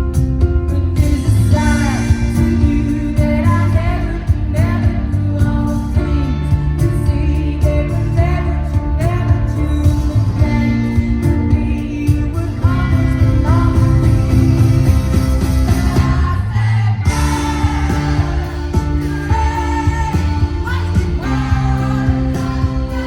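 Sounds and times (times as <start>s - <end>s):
band playing: 0.0s - 23.0s
woman singing: 0.7s - 14.9s, 15.6s - 23.0s.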